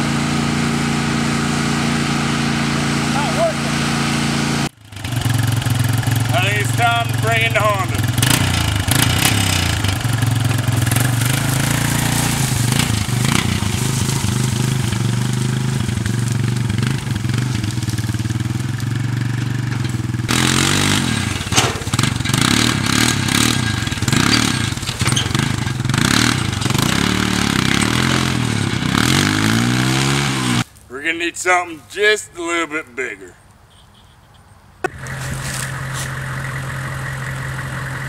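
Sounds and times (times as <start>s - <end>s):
atv engine running and revving: 0.0s - 30.7s, 34.9s - 38.0s
trailer and logs clattering: 0.0s - 33.3s, 34.8s - 38.0s.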